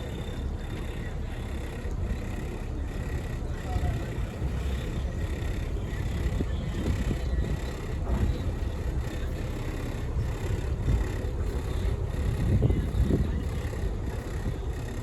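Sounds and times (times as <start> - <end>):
boat diesel engines rumbling: 0.0 - 15.0.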